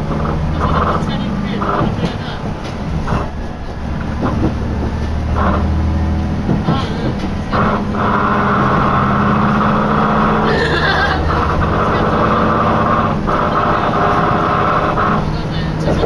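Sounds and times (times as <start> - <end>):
railcar engine and running gear drone: 0.0 - 16.0.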